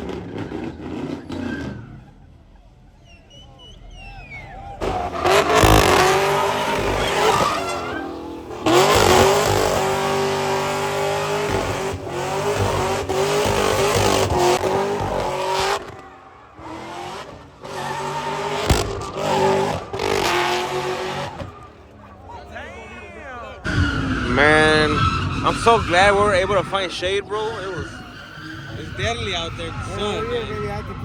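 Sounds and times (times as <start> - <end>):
tyres spinning and squealing: 0.0 - 31.0
car engine revving high: 4.3 - 22.2, 23.6 - 31.0.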